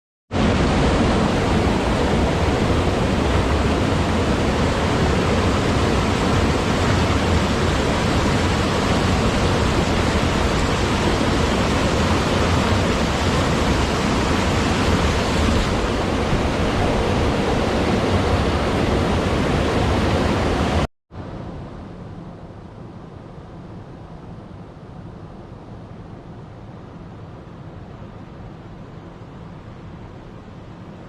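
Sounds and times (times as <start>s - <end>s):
loud rushing noise with low rumble: 0.3s - 31.0s.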